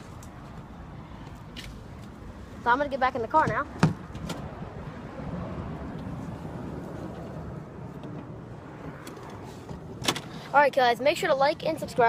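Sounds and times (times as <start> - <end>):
traffic: 0.0 - 12.0
wind rumble: 0.3 - 10.4.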